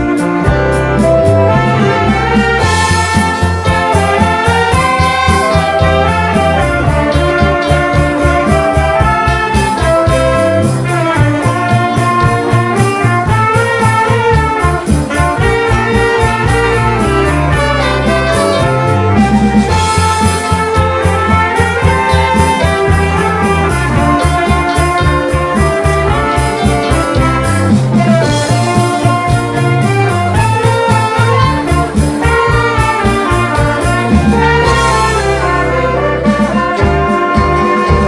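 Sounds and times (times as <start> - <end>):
live band playing: 0.0 - 38.0
trumpets and saxophone melody: 0.0 - 38.0.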